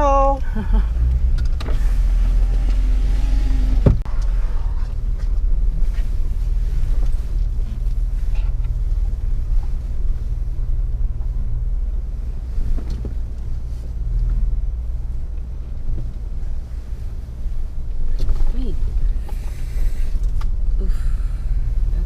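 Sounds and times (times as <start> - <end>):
engine rumbling at low revs: 0.0 - 22.0.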